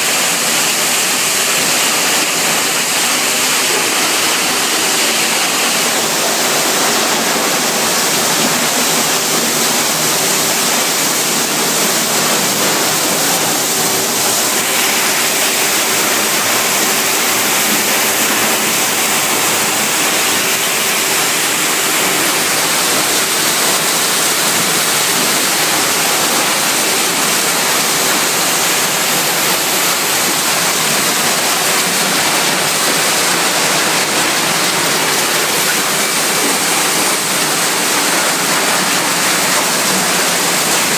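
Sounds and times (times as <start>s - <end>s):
water rushing through machine: 0.0s - 40.9s.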